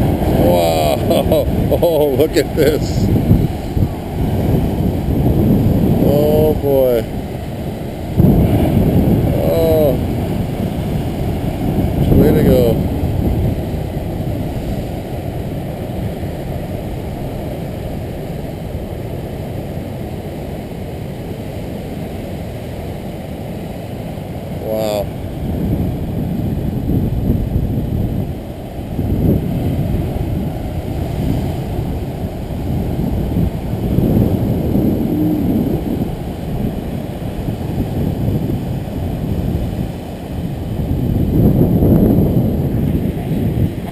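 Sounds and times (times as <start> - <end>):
wind buffeting microphone: 0.0 - 21.5, 22.1 - 43.9
ocean surf roaring over rocks: 0.0 - 43.9.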